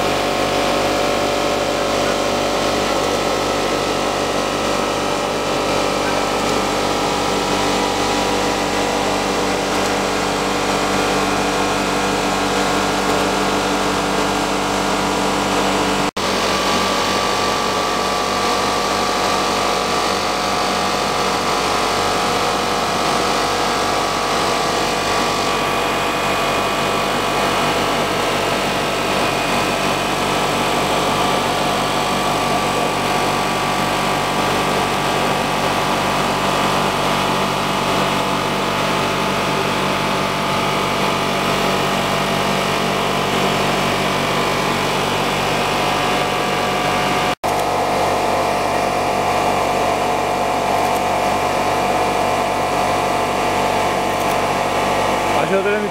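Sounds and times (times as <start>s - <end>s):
motors and blowers whirring: 0.0s - 55.9s.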